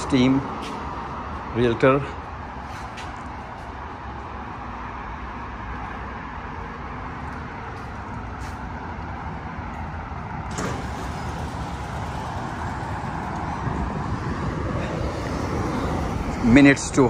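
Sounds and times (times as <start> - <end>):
passing vehicles: 0.0 - 17.0.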